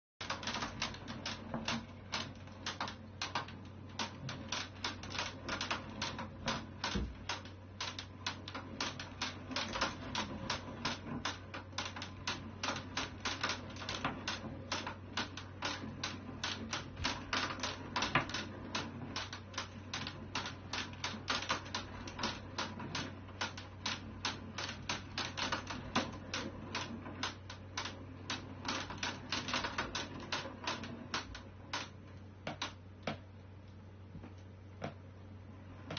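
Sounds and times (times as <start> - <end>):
cat wheel clicking and tapping: 0.2 - 33.3.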